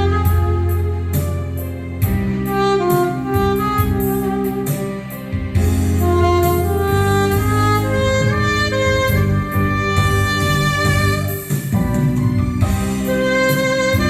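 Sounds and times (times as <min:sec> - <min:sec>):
bass line: 0:00.0 - 0:14.0
saxophone melody: 0:00.0 - 0:14.0
steady drum beat: 0:00.0 - 0:14.0.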